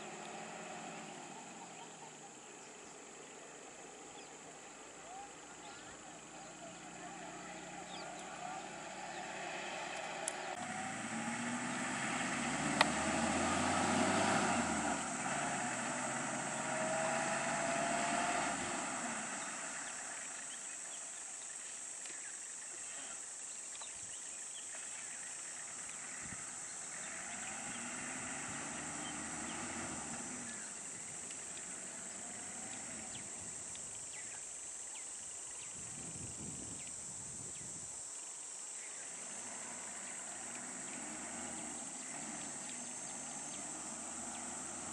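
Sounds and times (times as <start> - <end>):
insects droning: 0.0 - 44.9
vehicle engines idling: 0.0 - 44.9.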